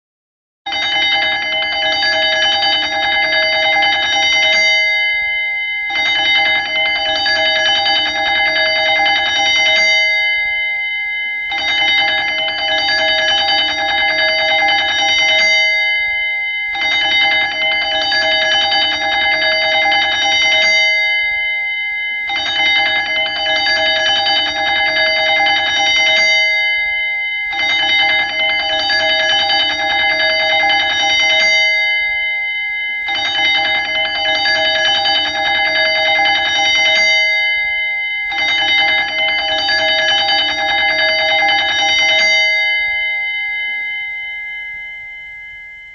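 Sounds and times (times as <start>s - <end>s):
electric alarm bell ringing: 0.7s - 45.9s.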